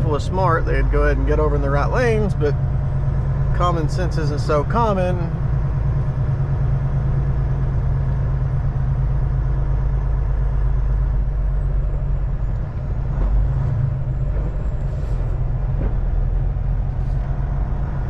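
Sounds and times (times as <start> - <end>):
road noise: 0.0 - 18.0
truck engine drone: 0.0 - 18.0.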